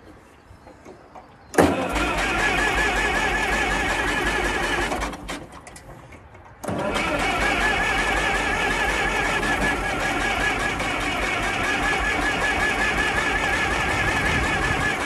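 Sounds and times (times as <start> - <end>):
engine starter cranking: 1.5 - 5.9, 6.6 - 15.0.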